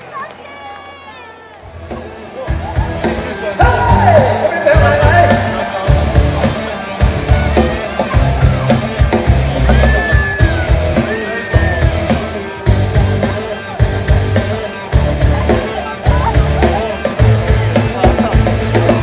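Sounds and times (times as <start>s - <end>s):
loud rock band music: 1.6s - 19.0s.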